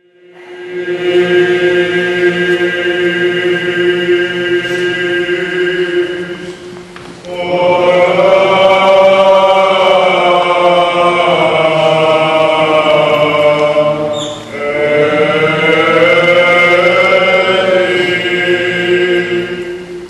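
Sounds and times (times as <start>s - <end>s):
held drone note: 0.0s - 20.0s
voices chanting: 0.0s - 20.0s.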